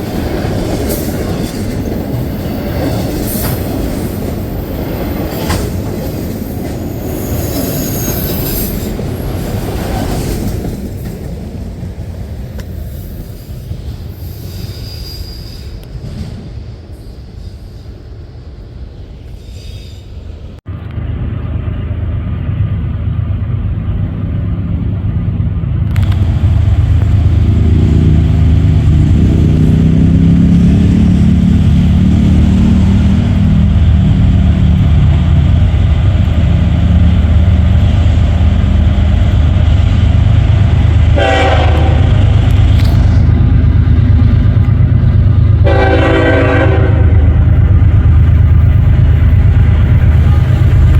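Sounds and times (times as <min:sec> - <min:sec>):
train rumbling past: 0:00.0 - 0:50.9.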